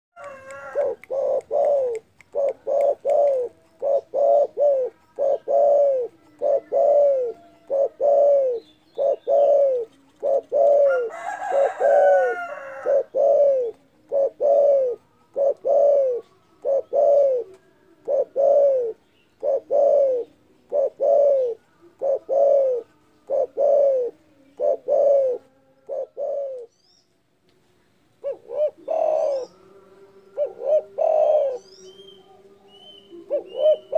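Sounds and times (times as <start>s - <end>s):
dove cooing: 0.2s - 26.8s, 28.2s - 33.9s.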